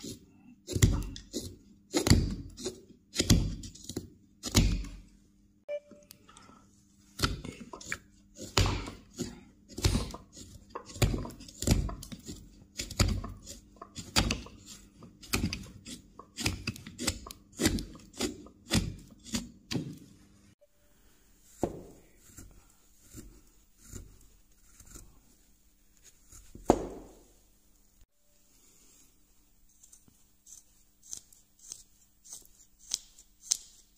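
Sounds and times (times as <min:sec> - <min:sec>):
knife carving wood: 0:00.0 - 0:05.0, 0:07.1 - 0:20.0, 0:21.6 - 0:27.3, 0:29.6 - 0:33.9.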